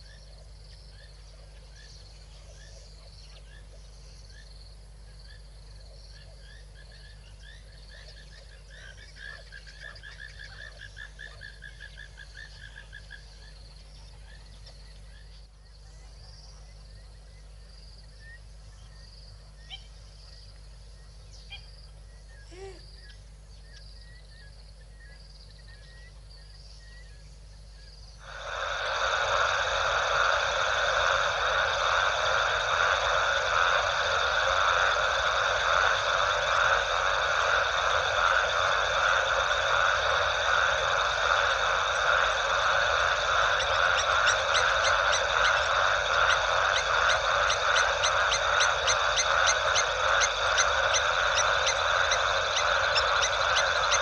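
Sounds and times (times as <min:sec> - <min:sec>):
faint bird chirps: 0:00.0 - 0:28.3, 0:31.0 - 0:54.0
frogs calling: 0:00.0 - 0:54.0.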